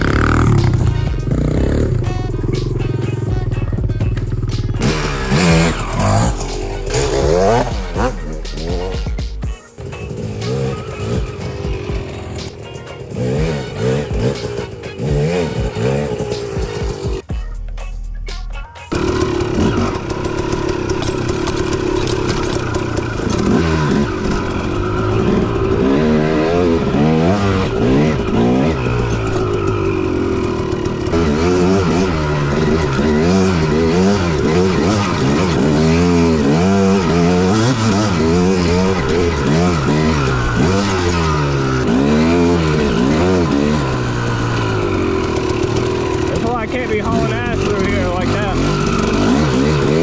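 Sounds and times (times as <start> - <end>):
dirt bike engine revving: 0.0 - 17.4, 18.3 - 50.0.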